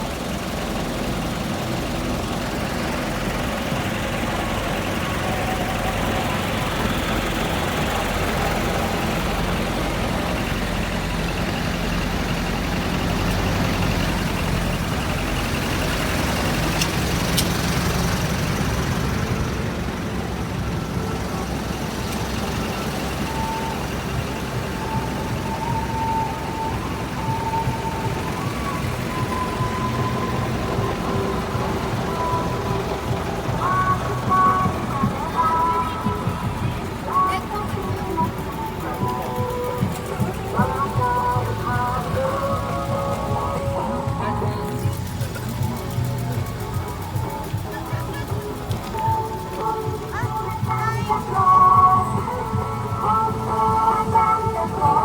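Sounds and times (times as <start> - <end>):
truck engines idling: 0.0 - 55.0.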